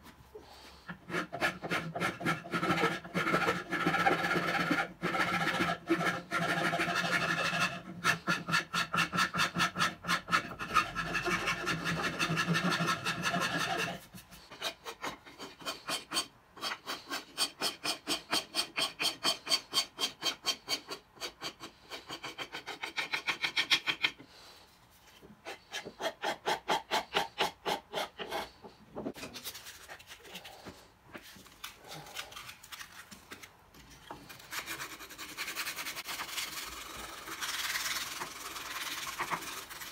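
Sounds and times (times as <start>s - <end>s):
hand file rasping on wood: 0.8s - 24.2s, 25.4s - 28.7s, 34.2s - 39.9s.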